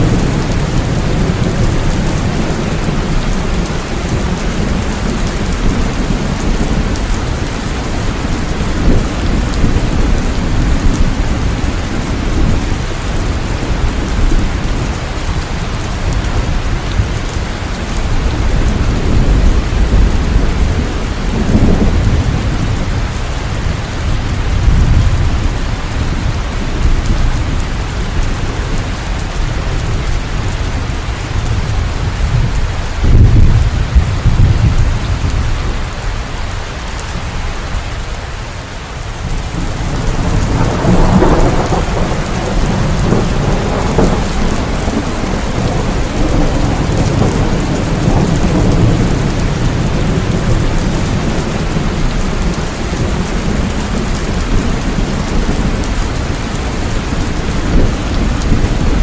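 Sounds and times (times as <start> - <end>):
thunder rumbling: 0.0 - 38.1, 39.0 - 59.0
rain falling: 0.0 - 59.0.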